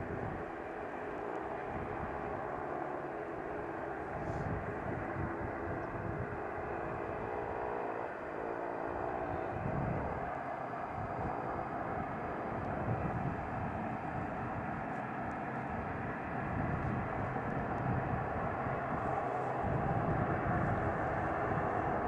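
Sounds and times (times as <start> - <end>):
turboprop airliner taxiing: 0.0 - 22.0.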